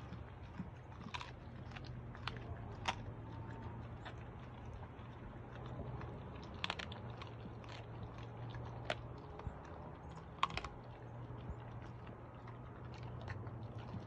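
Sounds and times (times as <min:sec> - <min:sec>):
dog chewing meat and bone: 0:00.0 - 0:14.0
low steady hum: 0:00.0 - 0:14.0.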